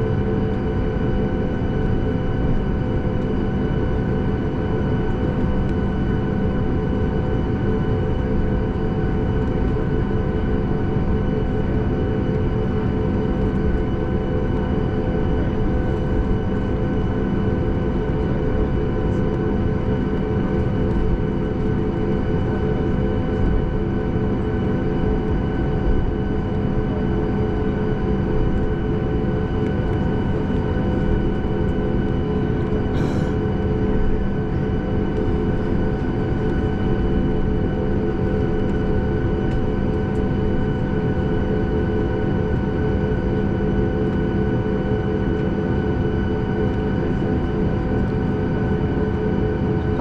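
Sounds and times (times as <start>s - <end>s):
jet engine cabin rumble: 0.0s - 50.0s.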